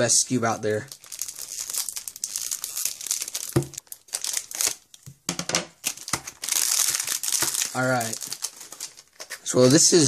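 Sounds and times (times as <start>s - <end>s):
plastic packaging crinkling: 0.7s - 5.1s, 5.8s - 10.0s
plastic tearing: 0.9s - 5.1s, 5.8s - 10.0s.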